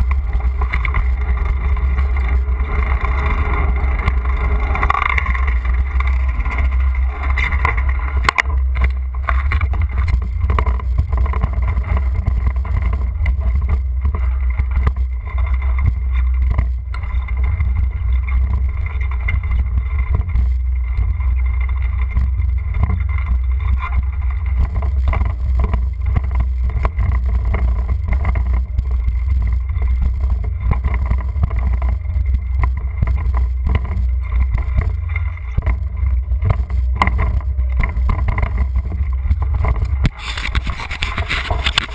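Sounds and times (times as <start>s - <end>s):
bike knocks and rattles: 0.0s - 41.9s
wind and road vibration rumble: 0.0s - 41.9s.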